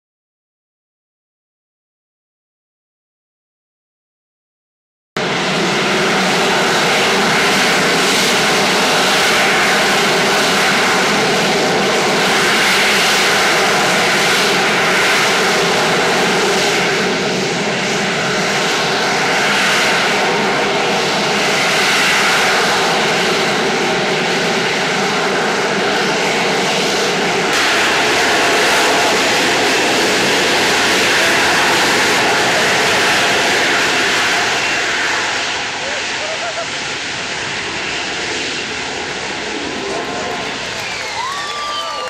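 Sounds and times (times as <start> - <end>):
loud jet engine noise: 5.2 - 42.0.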